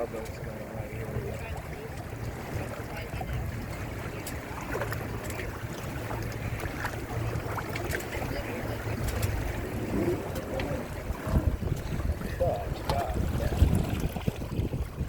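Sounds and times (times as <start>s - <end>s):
small splashes and ticks: 0.0s - 0.5s, 1.3s - 15.0s
water rushing against hull: 0.0s - 15.0s
wind rumble on microphone: 0.0s - 15.0s.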